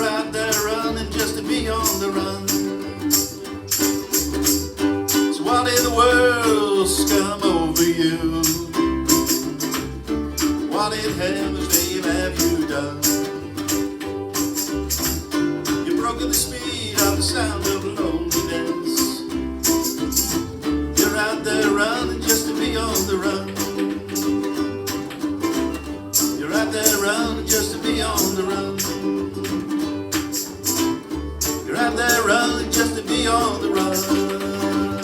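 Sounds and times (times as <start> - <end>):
ukulele group strumming: 0.0 - 35.0.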